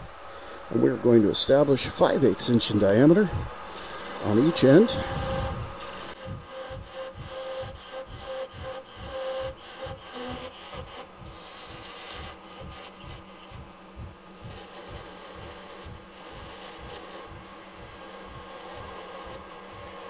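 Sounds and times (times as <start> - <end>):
lathe motor hum: 0.0 - 20.0
parting tool scraping wood: 1.8 - 20.0
low rhythmic throb: 2.0 - 20.0.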